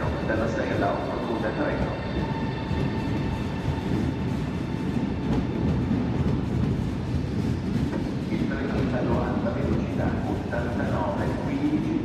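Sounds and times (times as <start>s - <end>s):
train rumbling on tracks: 0.0s - 12.0s.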